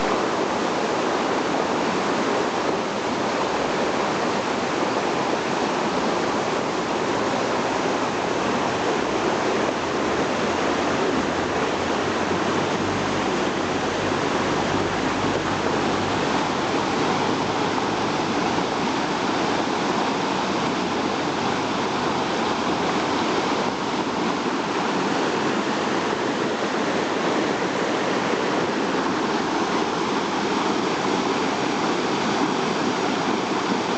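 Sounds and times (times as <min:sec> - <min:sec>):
flood water rushing: 0:00.0 - 0:33.9.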